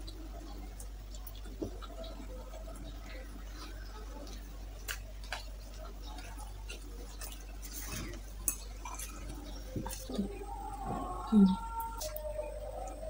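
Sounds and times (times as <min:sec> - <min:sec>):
chewing food: 0:00.0 - 0:13.0
steady low hum: 0:00.0 - 0:13.0.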